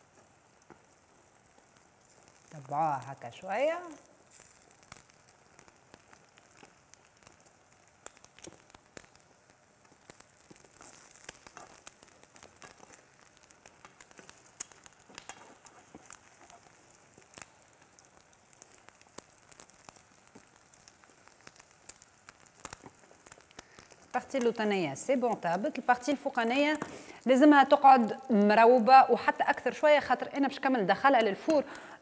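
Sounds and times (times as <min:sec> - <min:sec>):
eggs sizzling in a pan: 0:00.0 - 0:32.0.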